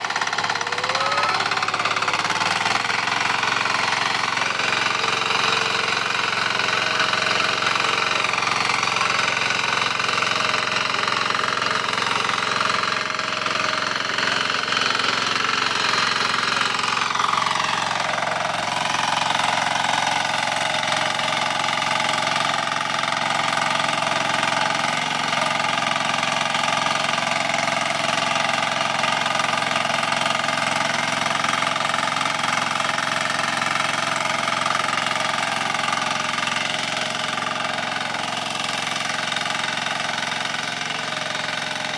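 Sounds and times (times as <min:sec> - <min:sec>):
diesel engine knocking: 0:00.0 - 0:41.9.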